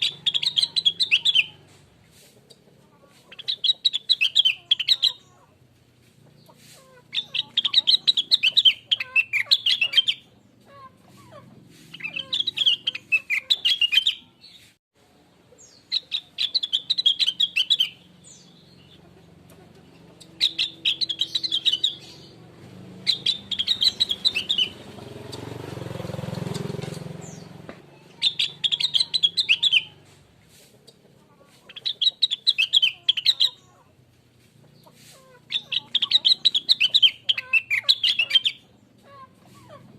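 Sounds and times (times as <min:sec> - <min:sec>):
bird singing chattering warbles: 0:00.0 - 0:01.7, 0:03.3 - 0:05.5, 0:06.3 - 0:14.7, 0:15.6 - 0:30.1, 0:30.8 - 0:34.0, 0:34.7 - 0:39.0.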